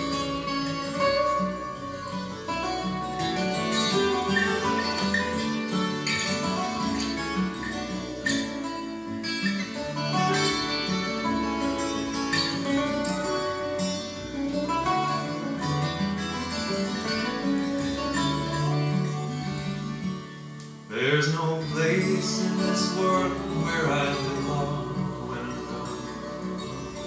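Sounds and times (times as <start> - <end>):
acoustic guitar playing: 0.0 - 27.0.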